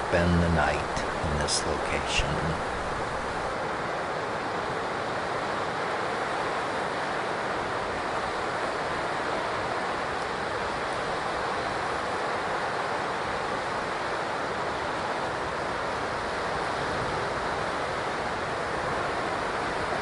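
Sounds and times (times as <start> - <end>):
ocean surf rushing: 0.0 - 20.0
wind on a beach: 0.0 - 20.0.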